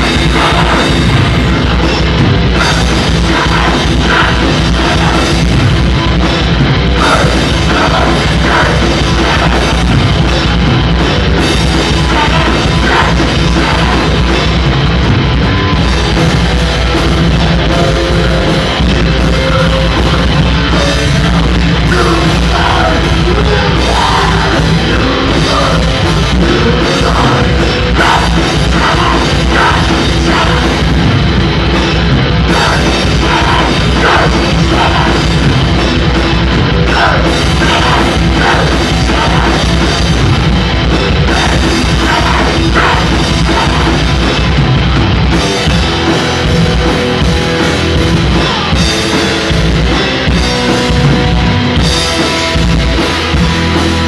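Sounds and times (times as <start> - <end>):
bass guitar: 0.0 - 54.0
distorted electric guitar: 0.0 - 54.0
drum kit: 0.0 - 54.0.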